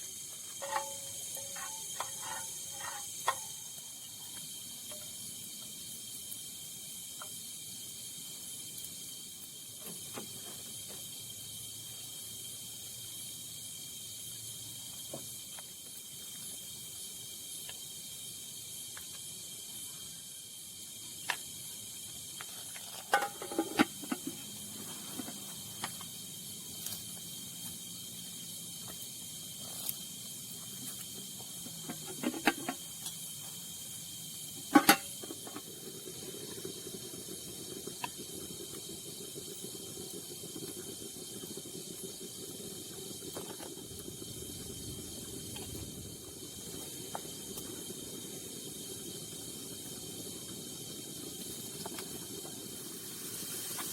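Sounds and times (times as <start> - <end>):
crickets chirping: 0.0 - 53.9.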